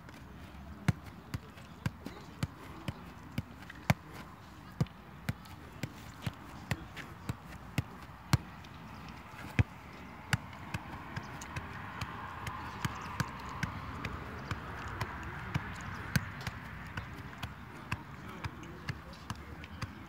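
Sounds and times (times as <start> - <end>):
football bouncing off feet: 0.1 - 20.0.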